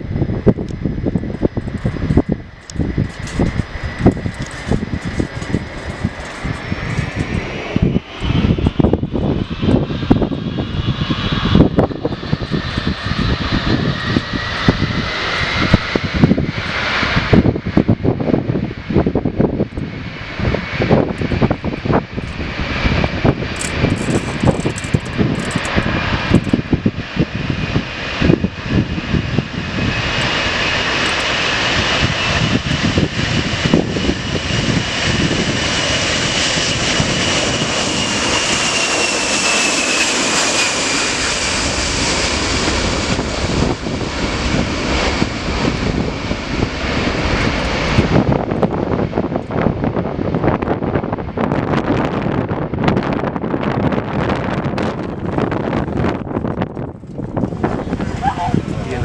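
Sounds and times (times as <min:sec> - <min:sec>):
jet engines rushing and whining: 0:00.0 - 0:59.0
wind buffeting microphone: 0:00.0 - 0:59.0.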